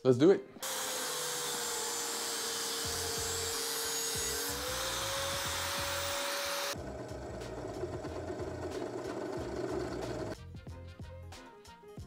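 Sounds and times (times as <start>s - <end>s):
angle grinder cutting metal: 0.6s - 10.4s.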